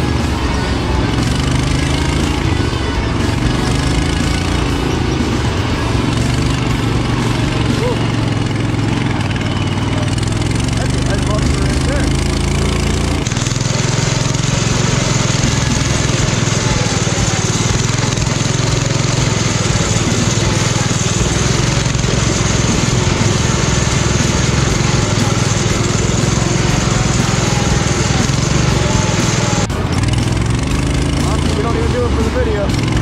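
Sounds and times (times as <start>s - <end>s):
lawn mower engine running: 0.0s - 33.0s.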